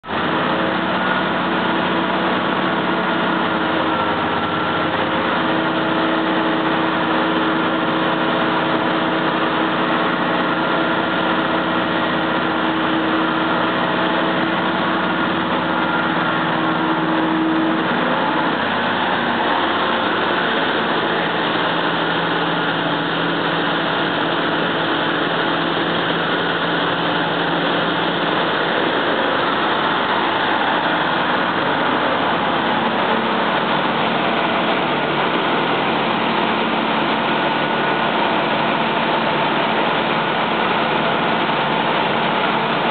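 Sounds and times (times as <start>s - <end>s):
heavy marine engine droning: 0.0s - 42.9s.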